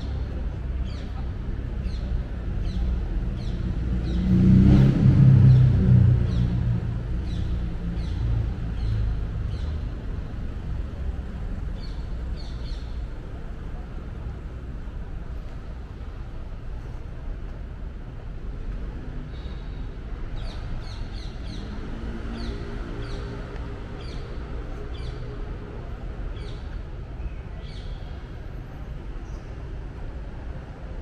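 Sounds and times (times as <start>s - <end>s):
city traffic rumble: 0.0s - 31.0s.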